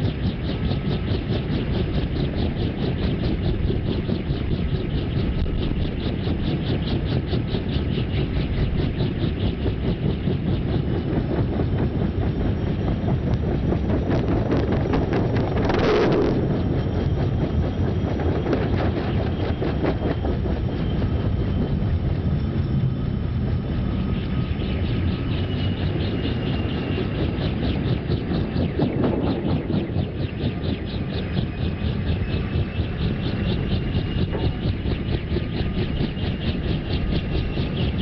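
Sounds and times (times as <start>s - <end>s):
helicopter rotor chopping: 0.0s - 38.0s.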